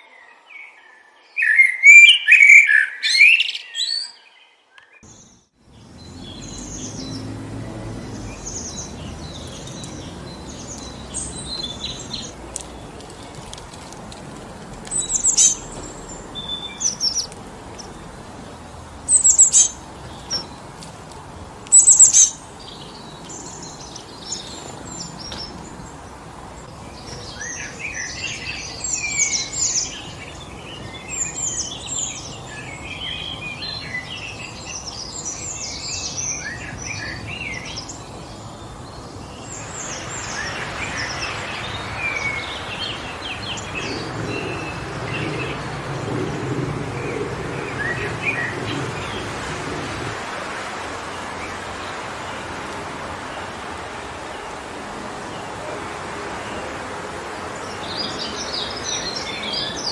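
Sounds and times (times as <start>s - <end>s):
birds chirping and singing: 0.0s - 20.7s, 21.7s - 50.2s
wind through trees: 0.0s - 59.9s.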